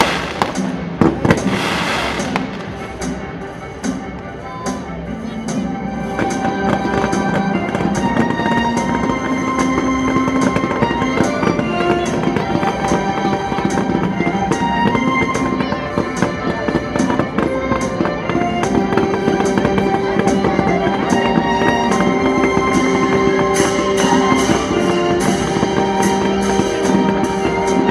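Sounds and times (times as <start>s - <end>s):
fireworks bangs and crackles: 0.0s - 4.6s, 5.8s - 27.9s
loud music with sustained notes: 0.0s - 27.9s.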